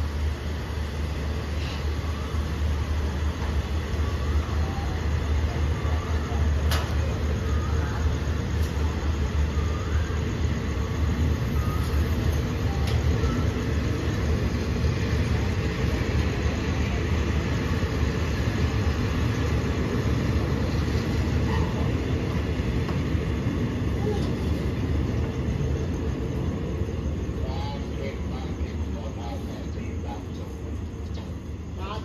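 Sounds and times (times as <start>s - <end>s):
train carriages rumbling past: 0.0s - 32.0s.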